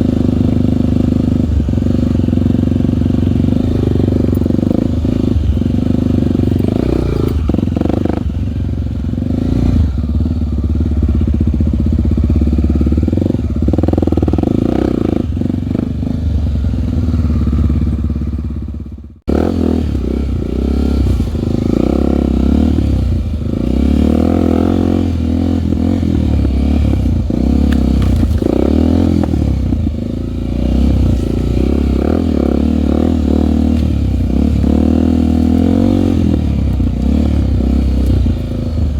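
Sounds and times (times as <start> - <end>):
trail bike engine revving: 0.0 - 38.9.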